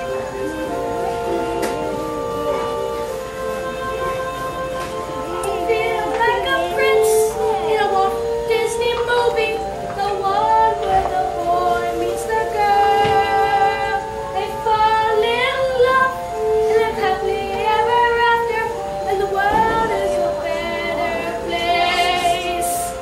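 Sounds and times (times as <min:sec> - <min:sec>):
musical accompaniment: 0:00.0 - 0:23.0
boy singing: 0:03.5 - 0:23.0.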